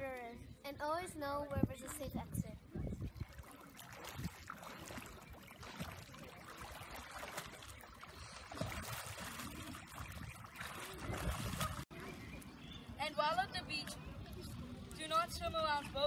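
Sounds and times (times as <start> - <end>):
pool water splashing: 3.1 - 16.0.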